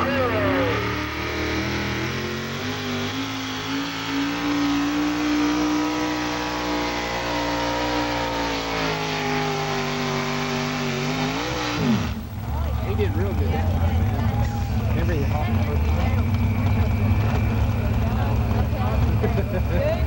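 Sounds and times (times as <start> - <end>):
diesel truck engine at high revs: 0.0 - 20.0.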